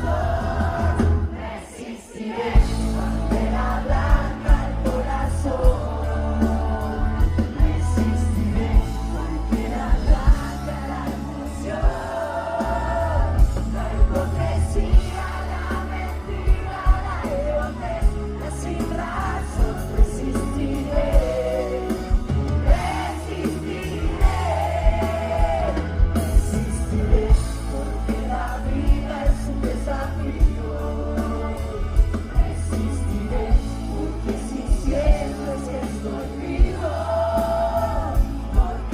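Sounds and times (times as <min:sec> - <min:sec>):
steady drum beat: 0:00.0 - 0:01.4, 0:02.4 - 0:38.9
heavy bass: 0:00.0 - 0:01.5, 0:02.6 - 0:38.9
lead vocal singing: 0:00.0 - 0:38.9.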